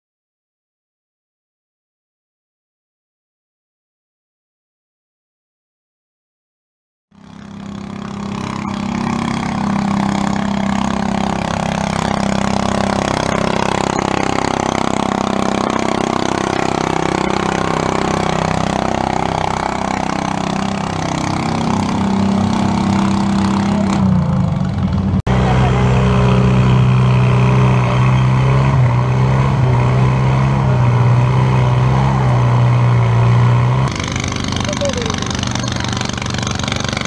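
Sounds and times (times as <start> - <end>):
garden tractor engine under load: 7.2 - 37.0.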